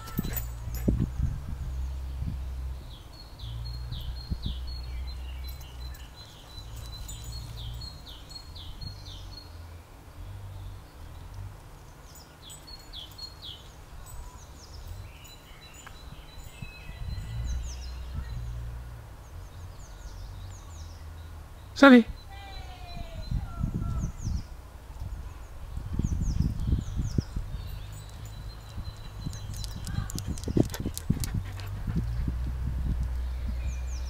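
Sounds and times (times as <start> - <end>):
birds singing: 1.6 - 34.0.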